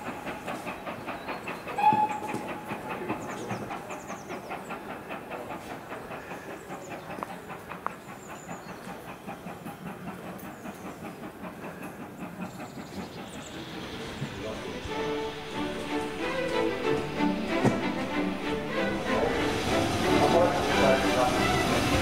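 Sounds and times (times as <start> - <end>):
steam hiss: 0.0 - 22.0
train wheels clicking: 0.0 - 22.0.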